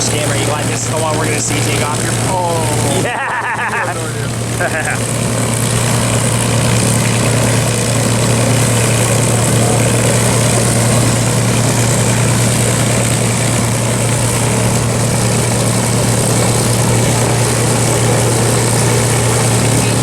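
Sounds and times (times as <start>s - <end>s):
propeller plane engine idling: 0.0s - 20.0s.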